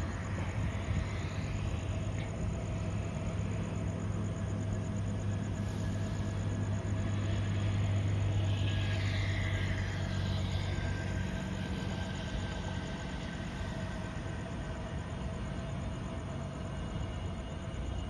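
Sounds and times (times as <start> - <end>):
metro train rumble: 0.0 - 18.0
traffic: 0.0 - 18.0.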